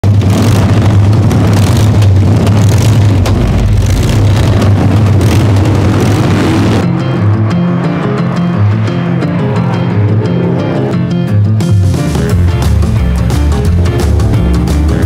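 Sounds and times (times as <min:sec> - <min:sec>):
racing car engine running: 0:00.0 - 0:15.0
road noise: 0:00.0 - 0:15.0.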